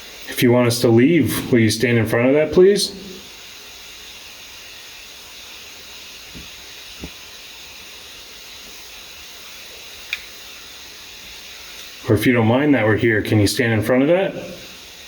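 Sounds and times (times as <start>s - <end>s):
recorder noise hiss: 0.0s - 15.0s.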